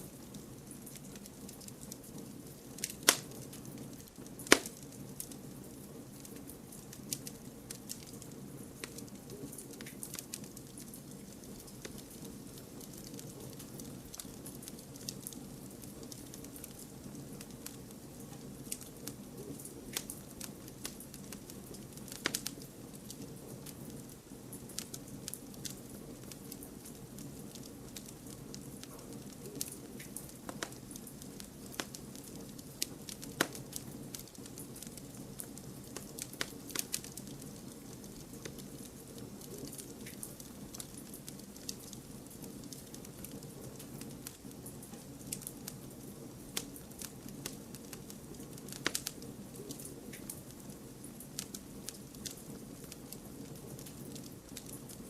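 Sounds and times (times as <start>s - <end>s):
burning wood crackling and popping: 0.0s - 55.0s
low rush of flame: 0.0s - 55.0s.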